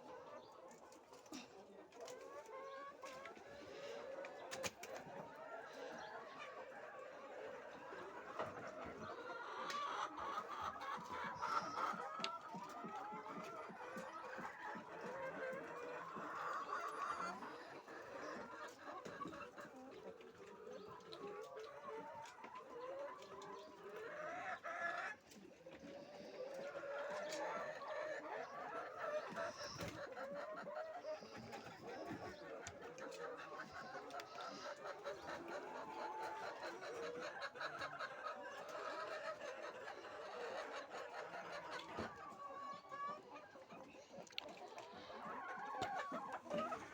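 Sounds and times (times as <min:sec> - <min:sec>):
hens clucking: 0:00.0 - 0:46.9.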